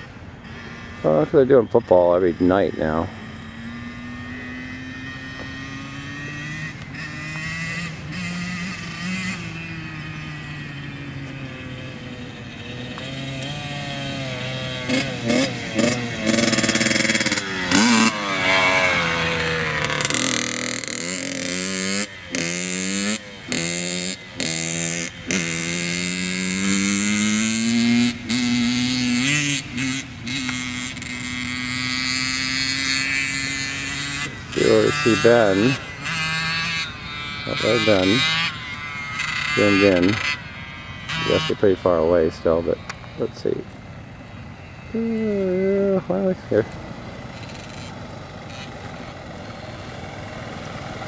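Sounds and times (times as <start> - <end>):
motorbike engines revving: 0.0 - 51.0.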